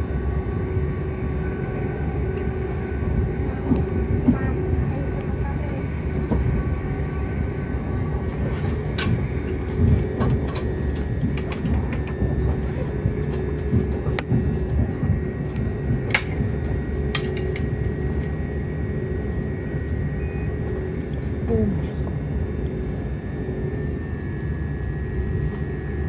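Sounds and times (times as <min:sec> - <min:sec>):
constant hum: 0:00.0 - 0:26.0
train rumble: 0:00.0 - 0:26.0.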